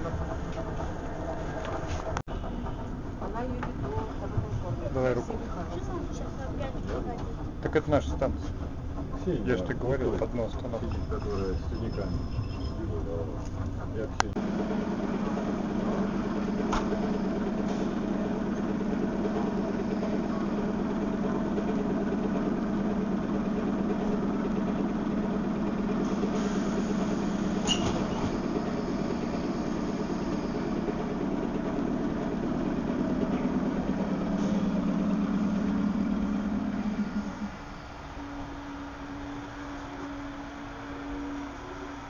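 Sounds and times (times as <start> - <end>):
train machinery humming: 0.0 - 42.0.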